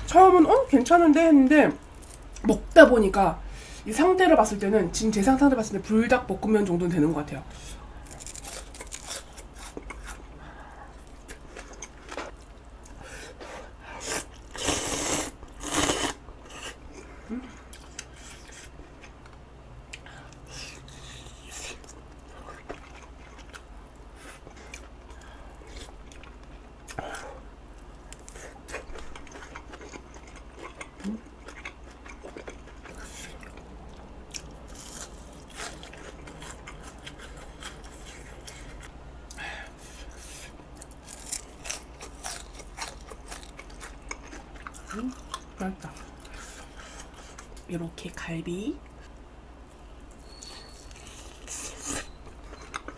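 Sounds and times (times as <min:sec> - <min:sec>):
person chewing food: 0:08.0 - 0:47.7, 0:48.9 - 0:52.9.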